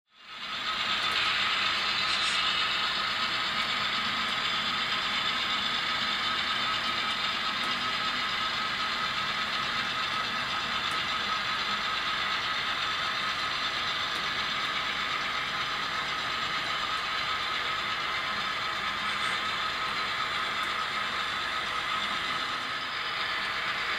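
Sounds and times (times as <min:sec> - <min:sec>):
model train motor whirring: 0:00.2 - 0:23.9
wheels rolling on rails: 0:00.2 - 0:23.9.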